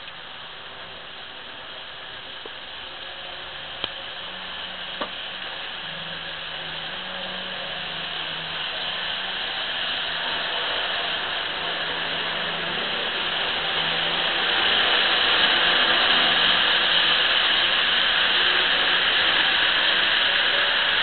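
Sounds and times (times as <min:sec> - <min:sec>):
model trains whirring on track: 0:00.0 - 0:21.0.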